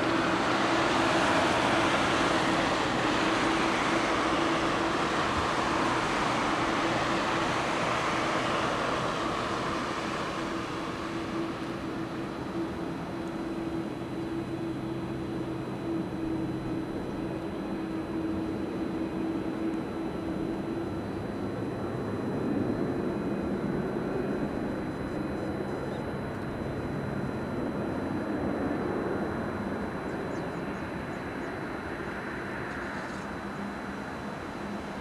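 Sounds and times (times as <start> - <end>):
humming tone: 0.0 - 35.0
jet engines running: 0.0 - 35.0.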